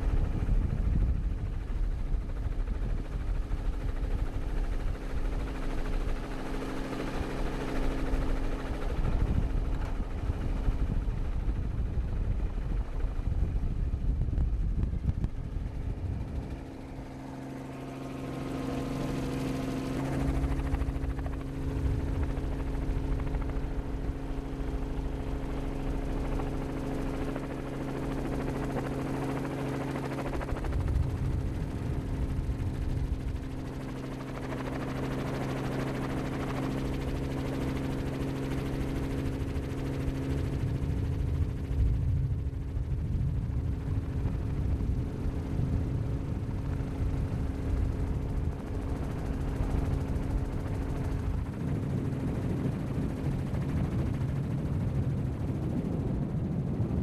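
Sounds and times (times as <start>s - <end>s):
helicopter engine and rotor: 0.0s - 57.0s
wind rumble on microphone: 0.0s - 57.0s.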